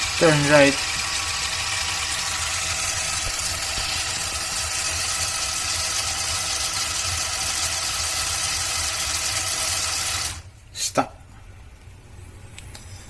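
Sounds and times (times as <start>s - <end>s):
small gear motors whining: 0.0s - 10.5s.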